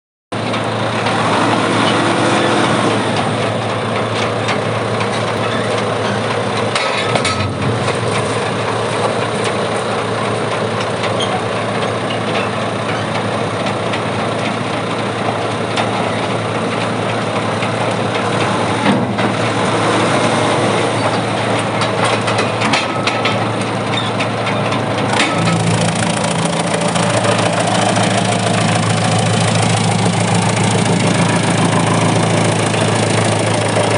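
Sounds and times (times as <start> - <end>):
wood chipper running: 0.4 - 33.9.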